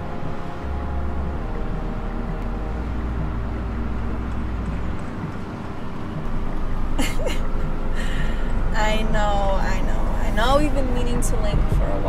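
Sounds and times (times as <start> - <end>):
city traffic rumble: 0.0 - 12.0
constant hum: 0.0 - 12.0.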